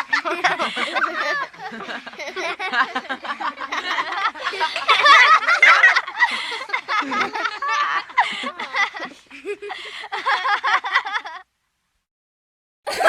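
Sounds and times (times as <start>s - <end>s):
group of people laughing: 0.0s - 11.4s.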